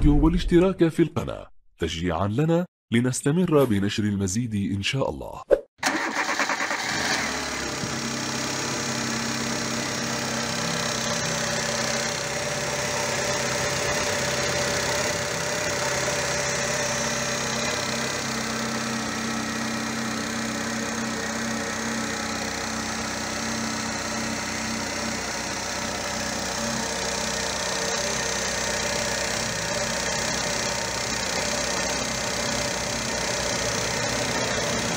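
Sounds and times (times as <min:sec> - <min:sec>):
petrol engine idling: 0:05.8 - 0:34.9.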